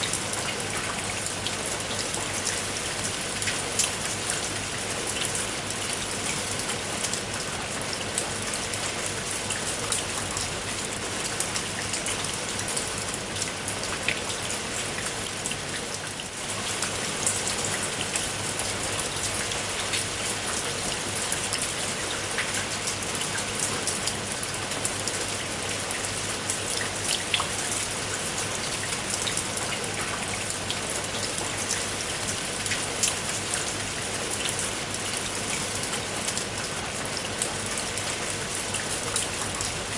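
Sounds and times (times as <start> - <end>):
raindrops ticking on a surface: 0.0 - 39.9
steady rain falling: 0.0 - 39.9.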